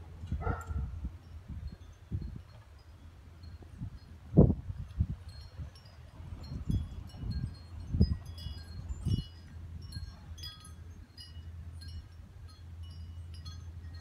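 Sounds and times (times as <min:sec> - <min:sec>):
wind on microphone: 0:00.0 - 0:11.2.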